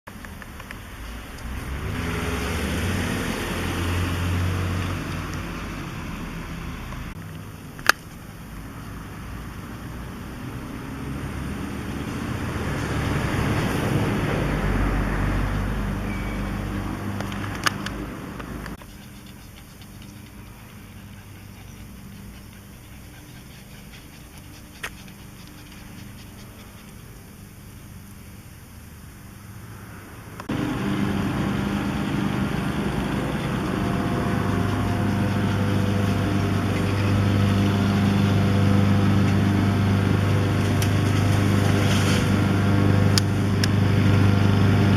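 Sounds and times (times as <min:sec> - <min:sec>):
excavator diesel engine working: 0:00.1 - 0:28.8, 0:30.3 - 0:44.9.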